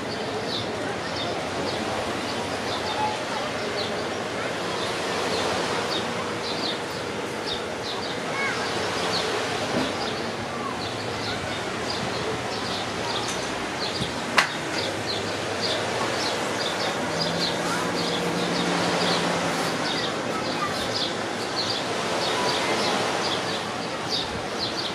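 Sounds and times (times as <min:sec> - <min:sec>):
sea and wind: 0:00.0 - 0:24.9
small birds chirping: 0:04.7 - 0:24.9.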